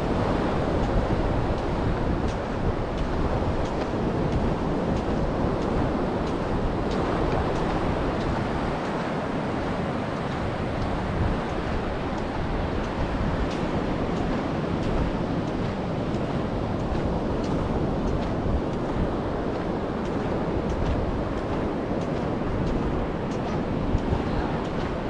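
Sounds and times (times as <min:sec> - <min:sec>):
sea surf: 0:00.0 - 0:25.0
wind buffeting microphone: 0:00.0 - 0:25.0
faint footsteps: 0:00.8 - 0:25.0.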